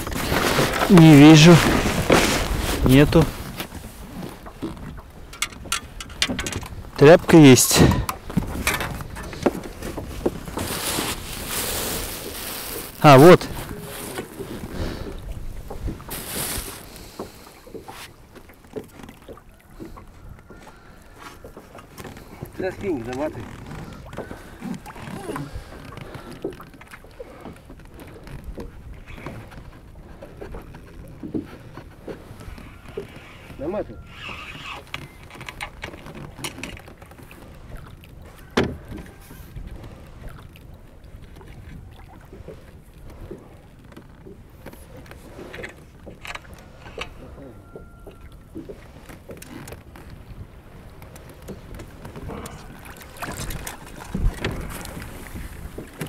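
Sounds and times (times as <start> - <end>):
gear knocking in boat: 0.0 - 56.0.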